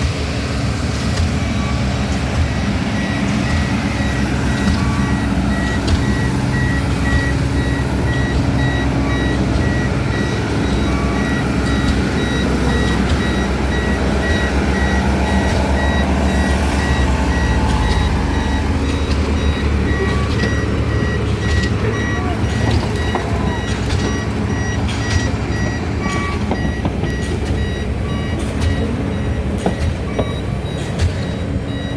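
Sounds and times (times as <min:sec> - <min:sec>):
heavy diesel engine running: 0:00.0 - 0:31.9
reversing alarm beeping: 0:00.0 - 0:31.9.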